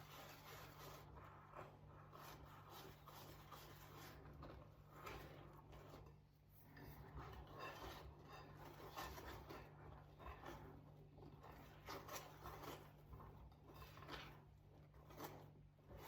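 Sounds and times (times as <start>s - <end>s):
batter stirred in mixing bowl: 0.0s - 16.0s.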